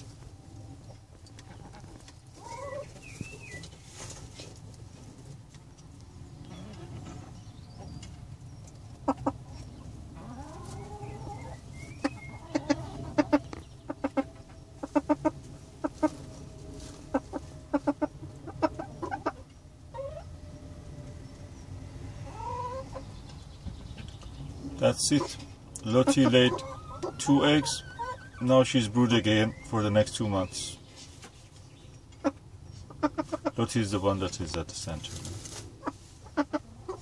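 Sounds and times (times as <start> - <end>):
hen clucking: 0.0 - 4.8, 6.4 - 20.4, 22.1 - 34.4, 35.2 - 37.0.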